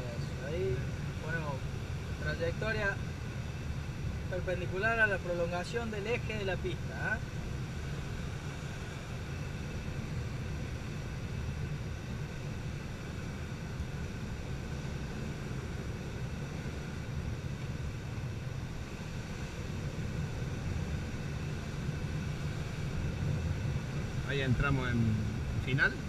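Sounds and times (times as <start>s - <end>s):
airflow rumble and hiss: 0.0s - 26.0s.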